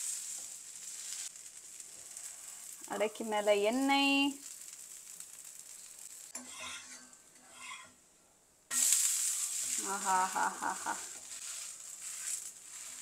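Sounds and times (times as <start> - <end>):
crepe sizzling in oil: 0.0 - 7.9, 8.7 - 13.0.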